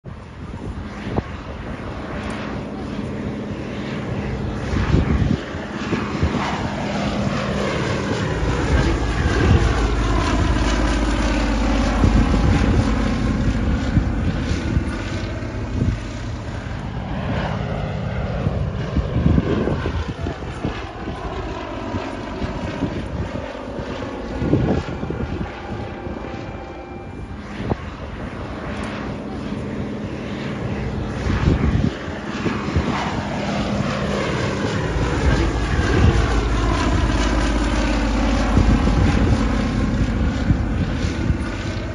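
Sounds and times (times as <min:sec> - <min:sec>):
propeller plane flying past: 0:00.0 - 0:41.9.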